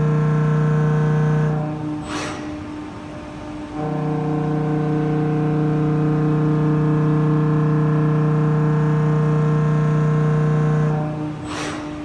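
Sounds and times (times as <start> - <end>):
machining centre cutting metal: 0.0 - 12.0.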